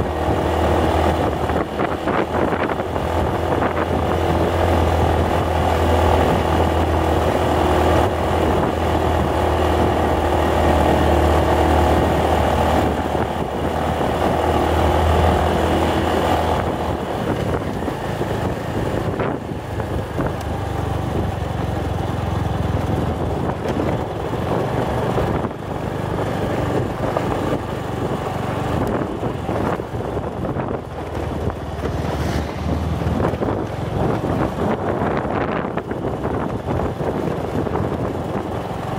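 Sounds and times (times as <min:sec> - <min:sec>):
wind on microphone: 0:00.0 - 0:21.8, 0:22.6 - 0:38.9
motorcycle engine running: 0:00.0 - 0:38.9.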